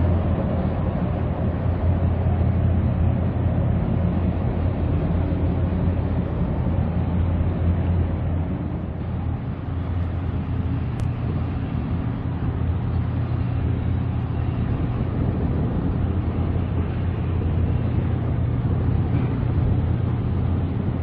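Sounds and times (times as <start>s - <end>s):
turbine engine drone: 0.0s - 21.0s.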